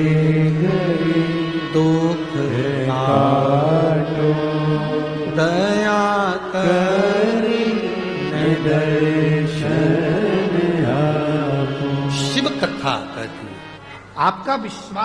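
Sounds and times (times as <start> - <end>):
man singing devotional song: 0.0 - 13.9
instrumental accompaniment: 0.0 - 15.0.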